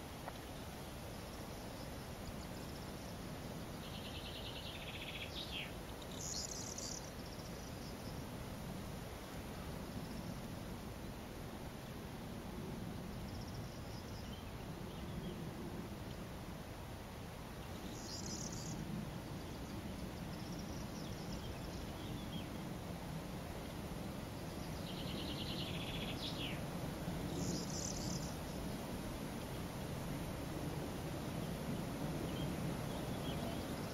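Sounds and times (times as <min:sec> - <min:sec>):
background hiss: 0:00.0 - 0:33.9.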